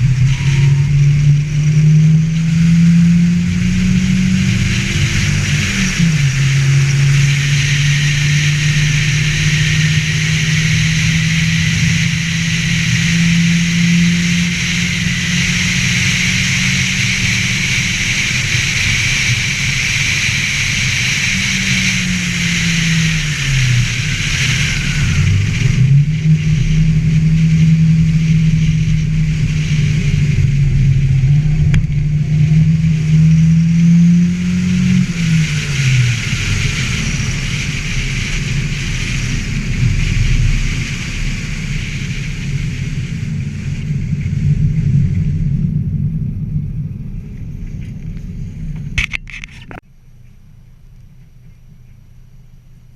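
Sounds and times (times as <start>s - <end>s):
race car engine revving: 0.0s - 49.8s.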